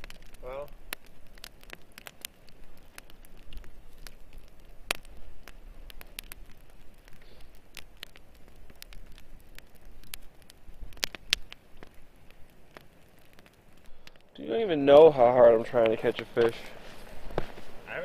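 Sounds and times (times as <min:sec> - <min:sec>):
campfire crackling: 0:00.0 - 0:18.0
soft hiss: 0:00.0 - 0:18.0.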